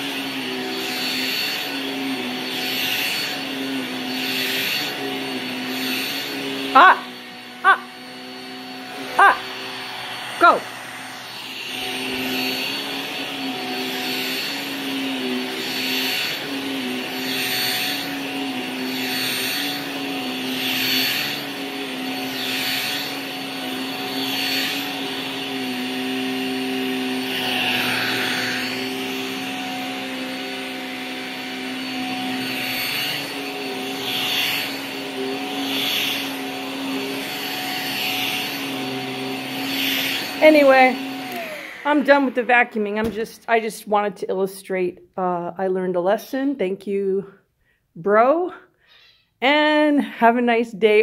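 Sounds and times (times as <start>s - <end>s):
vacuum cleaner on carpet: 0.0s - 44.1s.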